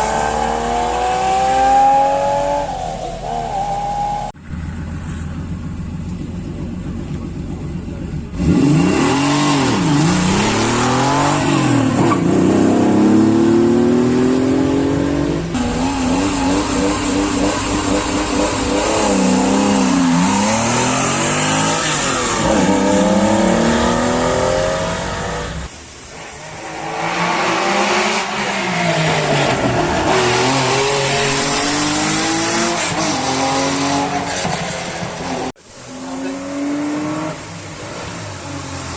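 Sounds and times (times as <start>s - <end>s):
rally car engines at full throttle: 0.0s - 38.9s.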